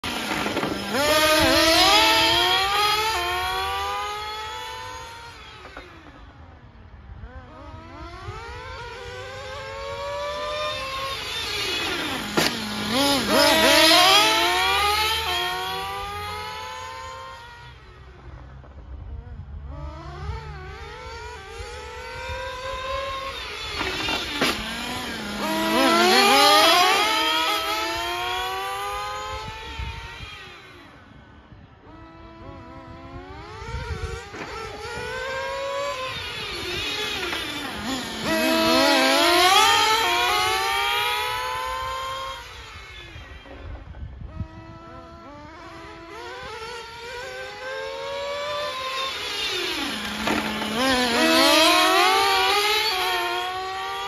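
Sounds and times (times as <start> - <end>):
rc car engines whining: 0.0 - 54.0.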